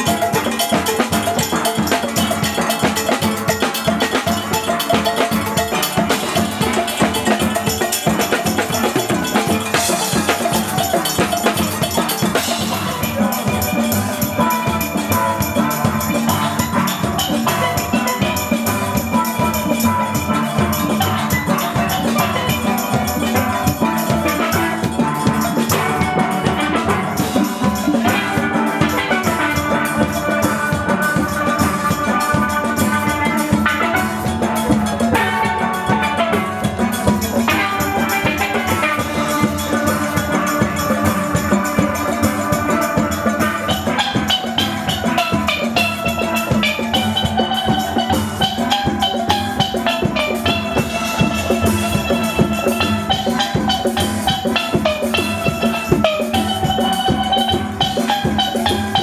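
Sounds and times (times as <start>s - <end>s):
drums keeping steady beat: 0.0s - 59.0s
steel pans playing melody: 0.0s - 59.0s.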